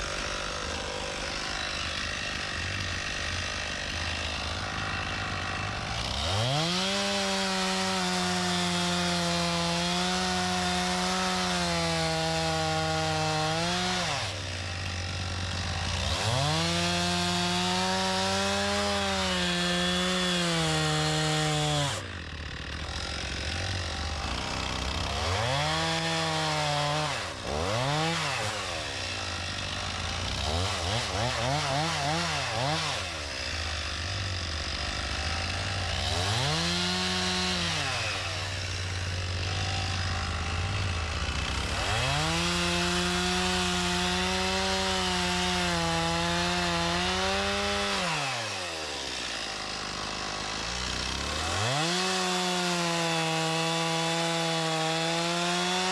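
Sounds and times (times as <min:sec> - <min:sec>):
chainsaw revving: 0:00.0 - 0:55.9.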